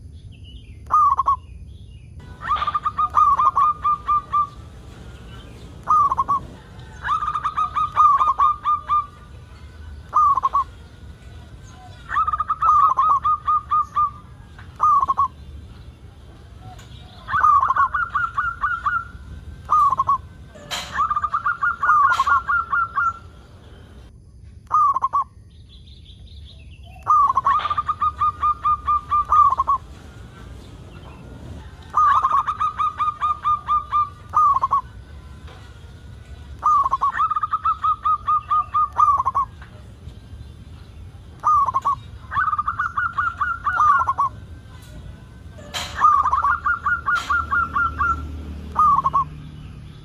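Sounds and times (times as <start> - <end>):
dove cooing song: 0.9 - 1.4, 2.2 - 24.1, 24.7 - 25.3, 26.8 - 49.5.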